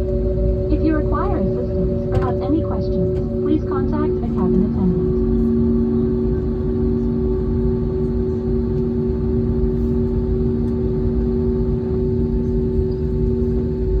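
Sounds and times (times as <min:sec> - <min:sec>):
jet engines idling in cabin: 0:00.0 - 0:14.0.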